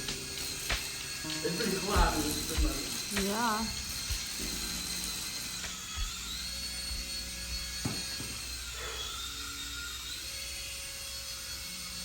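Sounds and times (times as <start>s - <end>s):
remote-control helicopter rotor whine: 0.0s - 12.0s.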